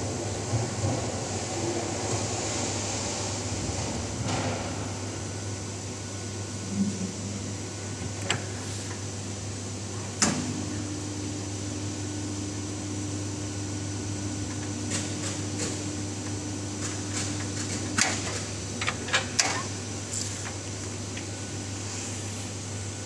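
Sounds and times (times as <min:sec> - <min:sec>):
welding press humming: 0:03.4 - 0:23.0.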